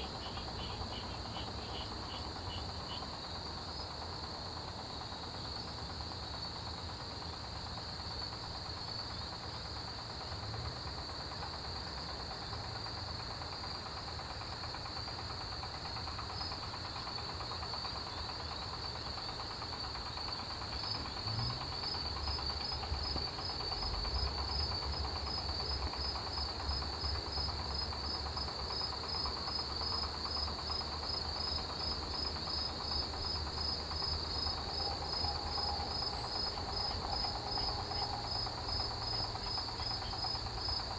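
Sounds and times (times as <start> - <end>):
crickets trilling: 0.0 - 40.9
insect pulsing chirps: 0.0 - 40.9.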